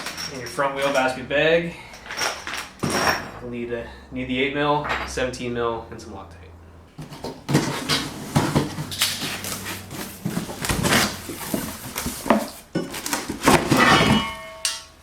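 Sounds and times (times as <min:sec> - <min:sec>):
metal baskets clattering: 0:00.0 - 0:15.0.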